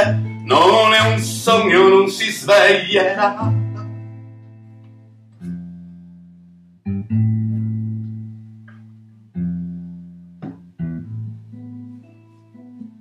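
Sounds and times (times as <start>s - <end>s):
acoustic guitar strumming chords: 0.0s - 13.0s
plucked guitar notes: 0.0s - 13.0s.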